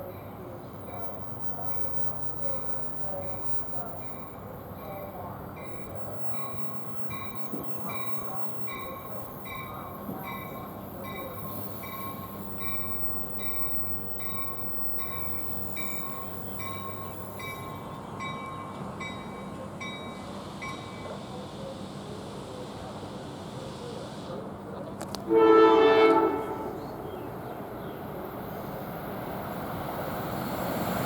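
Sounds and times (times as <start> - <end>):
train humming: 0.0 - 31.0.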